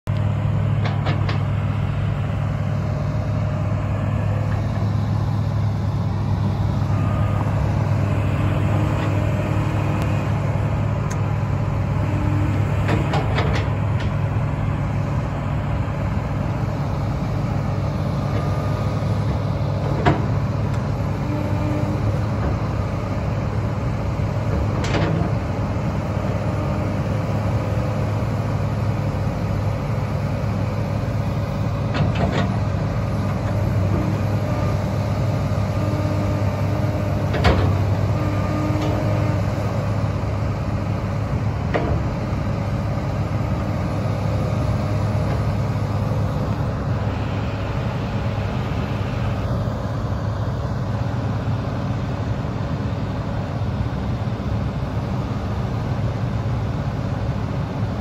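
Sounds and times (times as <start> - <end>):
excavator diesel engine droning: 0.1 - 58.0.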